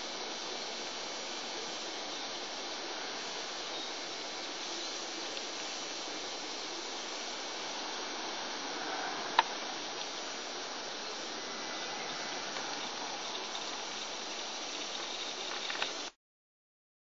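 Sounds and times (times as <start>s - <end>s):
steady background hiss: 0.0s - 16.2s.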